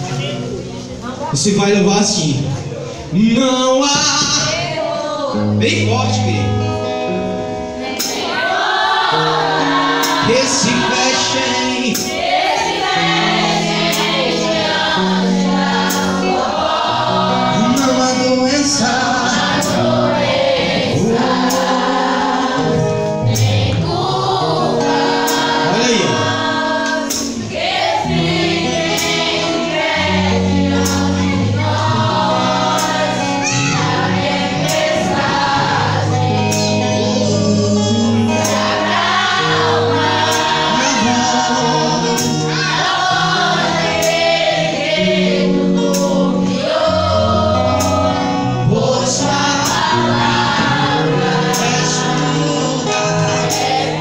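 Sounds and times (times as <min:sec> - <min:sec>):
gospel singing over a band: 0:00.0 - 0:54.0.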